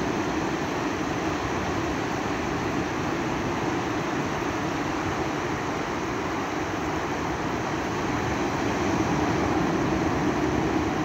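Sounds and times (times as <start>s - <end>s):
sea surf breaking on beach: 0.0s - 11.0s.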